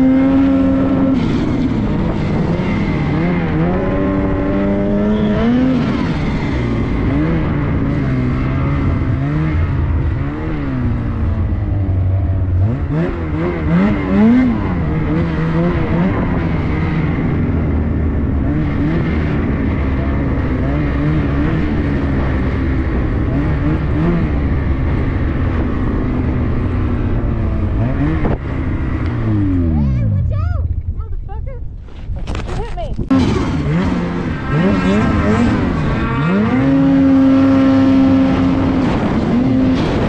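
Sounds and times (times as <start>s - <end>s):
snowmobile engine revving: 0.0s - 31.5s, 33.1s - 40.0s.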